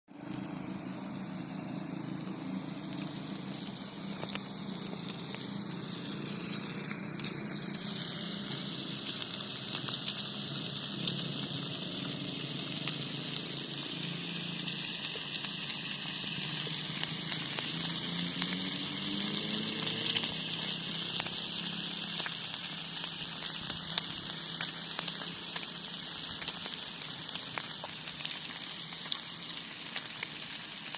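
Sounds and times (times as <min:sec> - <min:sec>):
meat sizzling on griddle: 0:00.1 - 0:30.9.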